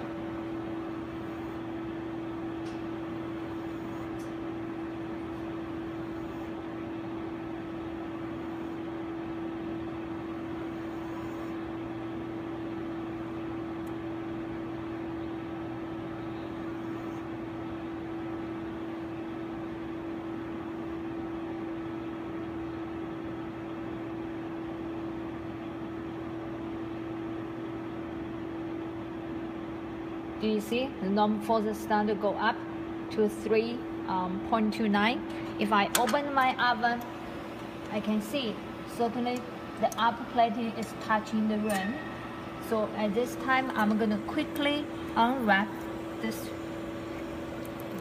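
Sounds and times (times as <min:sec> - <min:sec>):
lab equipment humming: 0:00.0 - 0:48.0.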